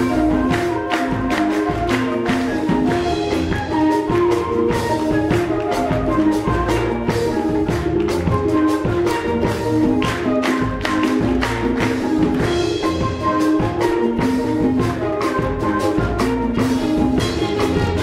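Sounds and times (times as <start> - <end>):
drum kit beat: 0.0 - 18.0
held keyboard notes: 0.0 - 18.0.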